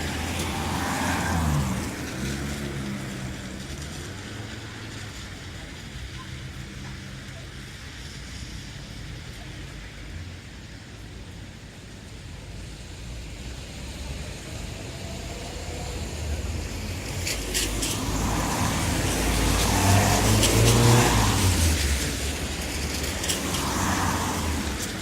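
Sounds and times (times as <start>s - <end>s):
tyres hissing on wet road: 0.0s - 25.0s
vehicle engine rumble: 0.0s - 25.0s.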